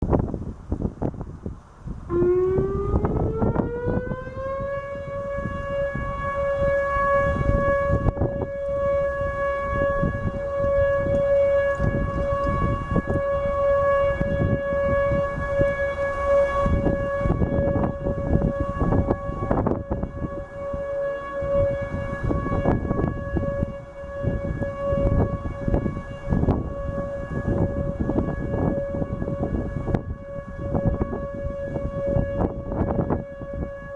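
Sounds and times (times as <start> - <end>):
outdoor warning siren: 0.1 - 33.9.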